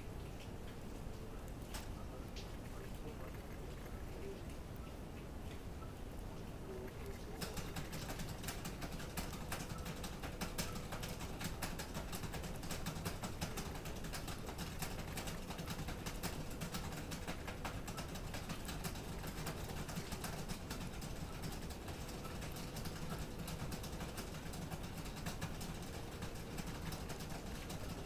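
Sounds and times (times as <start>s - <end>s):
hamster nibbling: 1.2s - 28.0s.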